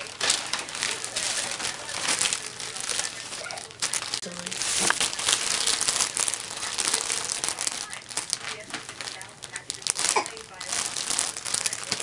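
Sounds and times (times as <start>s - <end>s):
wrapping paper crinkling: 0.0s - 12.0s.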